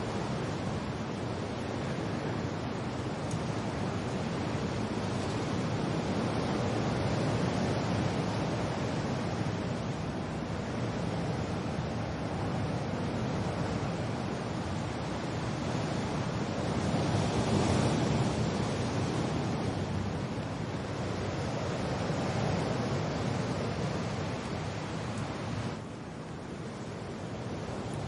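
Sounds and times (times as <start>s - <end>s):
rain: 0.0s - 28.0s
wind: 0.0s - 28.0s.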